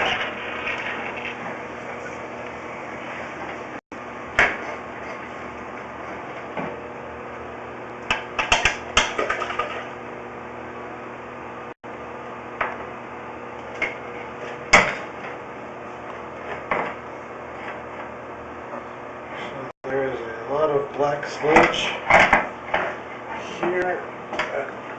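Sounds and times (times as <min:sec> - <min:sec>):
steady hum: 0:00.0 - 0:24.9.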